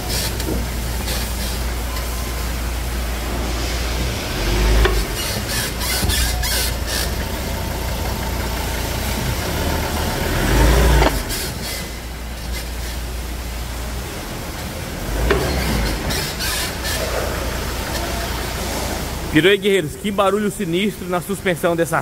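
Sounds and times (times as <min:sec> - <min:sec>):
front suspension creaking: 0:00.0 - 0:19.6
engine idling: 0:00.0 - 0:21.5.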